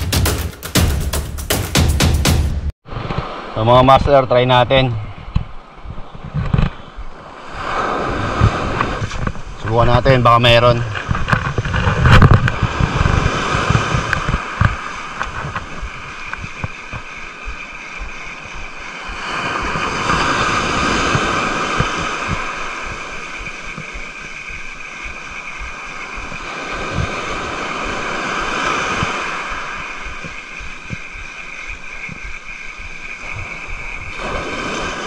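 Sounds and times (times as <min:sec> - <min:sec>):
sea waves breaking on shore: 0:02.8 - 0:05.0, 0:05.6 - 0:35.0
wind buffeting microphone: 0:05.0 - 0:35.0.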